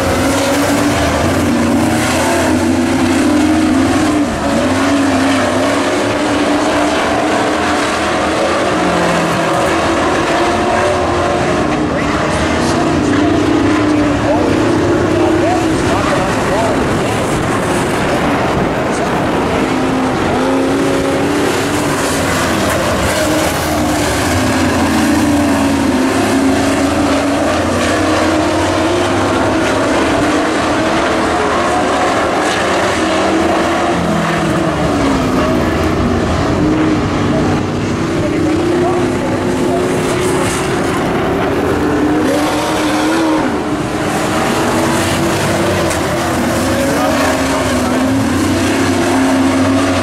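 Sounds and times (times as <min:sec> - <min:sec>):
race truck engines running hard: 0:00.0 - 0:50.0.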